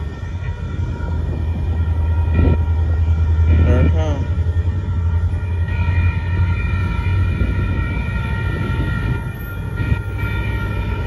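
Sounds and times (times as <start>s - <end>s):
crossing warning tones: 0.0s - 11.0s
freight train rumble: 0.0s - 11.0s.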